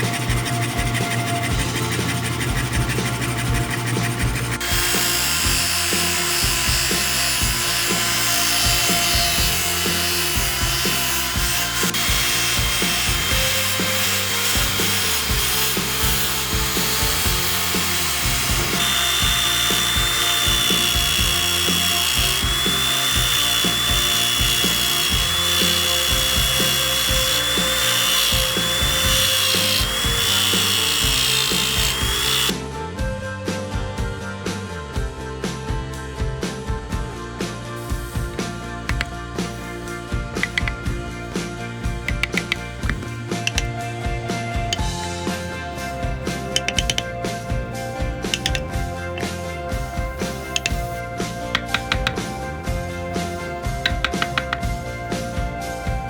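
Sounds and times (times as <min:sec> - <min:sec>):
power tool whining against wood: 0:00.0 - 0:32.6, 0:37.8 - 0:56.0
background music with a beat: 0:00.0 - 0:56.0.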